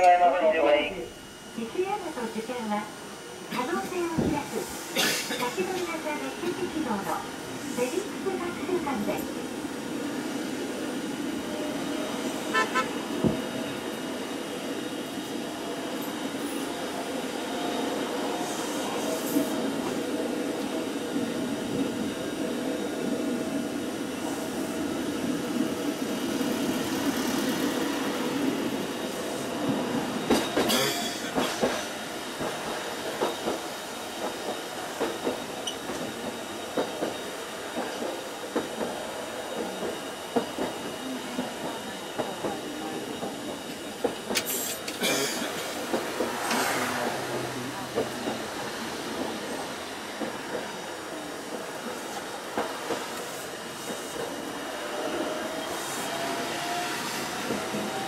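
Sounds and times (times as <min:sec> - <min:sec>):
tram motors and wheels humming: 0:00.0 - 0:58.0.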